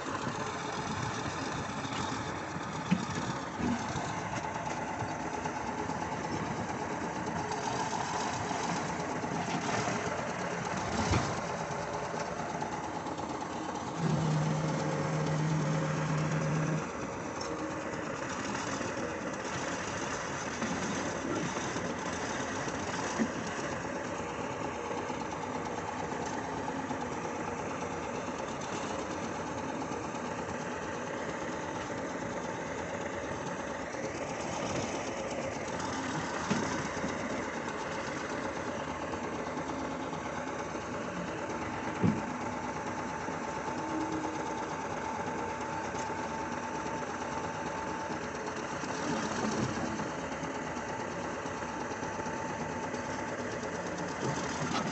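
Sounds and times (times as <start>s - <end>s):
diesel engine clattering: 0.0s - 54.9s.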